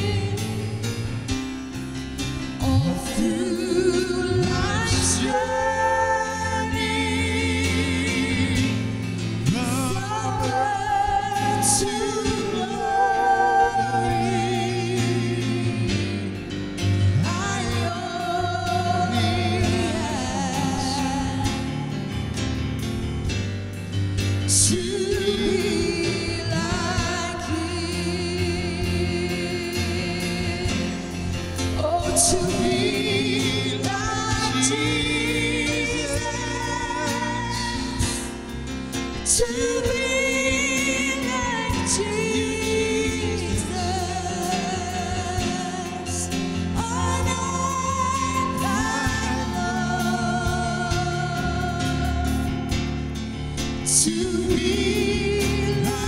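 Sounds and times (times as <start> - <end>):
person singing with vibrato: 0.0 - 1.5, 2.4 - 22.5, 24.5 - 56.0
band playing gospel music: 0.0 - 56.0.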